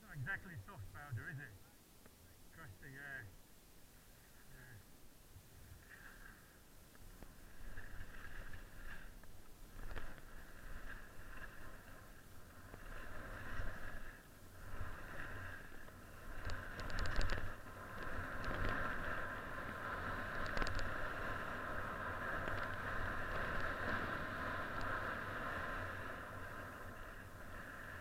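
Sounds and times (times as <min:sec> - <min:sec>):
wind rumbling on microphone: 0:05.4 - 0:28.0.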